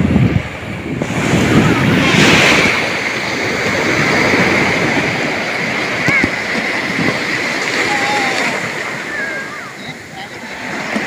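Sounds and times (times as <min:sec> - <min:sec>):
sea waves breaking on beach: 0:00.0 - 0:11.0.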